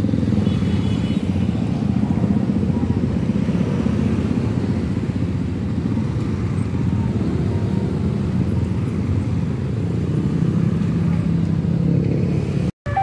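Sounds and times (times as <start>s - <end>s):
motorcycle and car engines in traffic: 0.0s - 13.0s.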